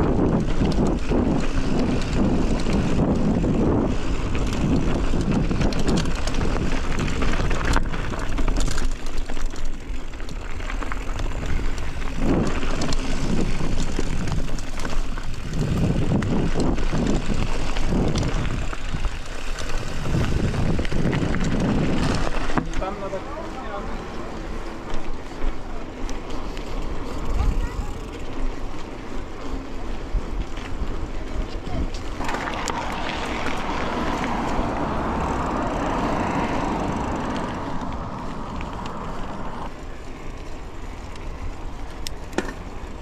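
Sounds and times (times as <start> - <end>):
bicycle ride rumbling: 0.0 - 43.0
wind buffeting microphone: 0.0 - 43.0.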